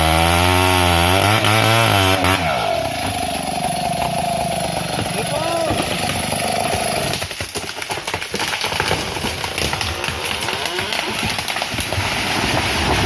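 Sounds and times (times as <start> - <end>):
tree branches crackling and snapping: 1.1 - 13.0.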